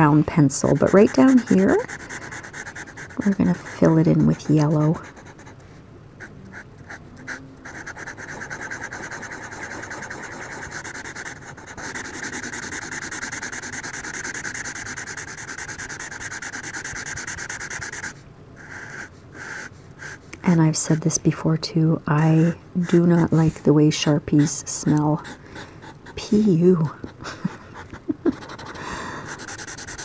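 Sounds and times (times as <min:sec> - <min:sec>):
marker scribbling on paper: 0:00.0 - 0:05.6, 0:06.9 - 0:20.2, 0:22.8 - 0:23.6, 0:24.3 - 0:26.6, 0:27.8 - 0:30.0.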